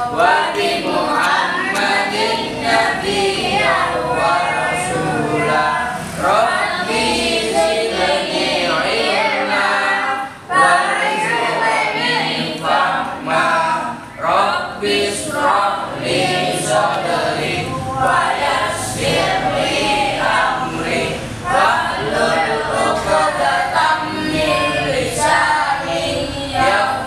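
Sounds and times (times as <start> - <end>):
children chanting in unison: 0.0 - 27.0.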